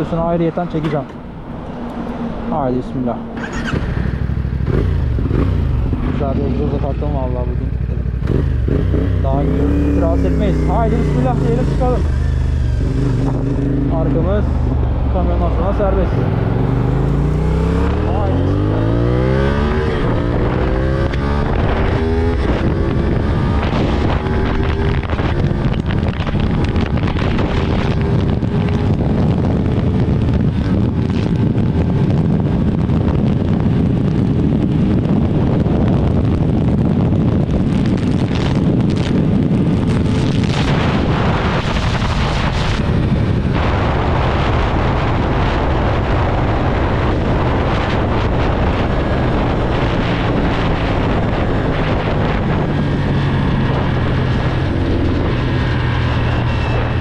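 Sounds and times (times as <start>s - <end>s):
wind noise on microphone: 0.0s - 57.0s
motorcycle accelerating hard: 3.3s - 57.0s.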